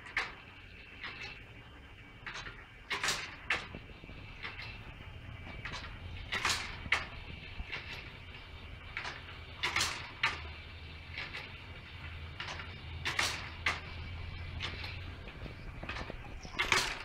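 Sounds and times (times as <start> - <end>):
valve gear clacking: 0.0 - 17.0.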